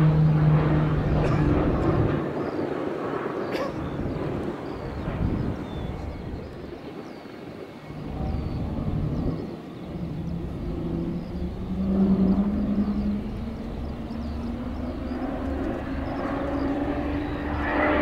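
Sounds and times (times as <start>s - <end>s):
turboprop aircraft drone overhead: 0.0s - 18.0s.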